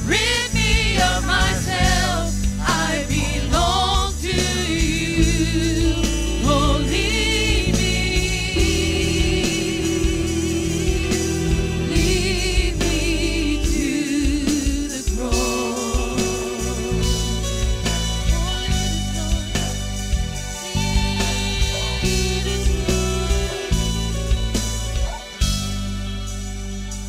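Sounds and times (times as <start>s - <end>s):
singers singing with vibrato: 0.0s - 24.4s
praise band playing: 0.0s - 27.0s.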